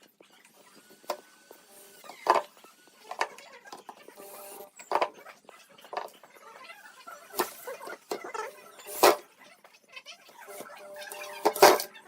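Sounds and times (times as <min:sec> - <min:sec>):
faint scraping and rustling: 0:00.0 - 0:12.0.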